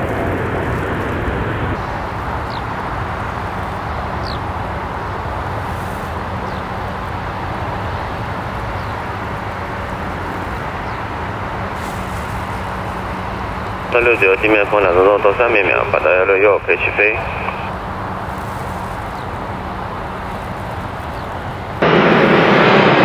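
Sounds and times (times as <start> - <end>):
engine rumble: 0.0 - 23.0.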